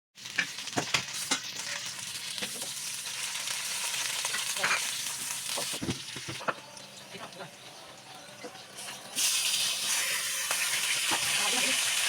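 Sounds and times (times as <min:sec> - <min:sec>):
food sizzling in a pan: 0:00.2 - 0:12.0.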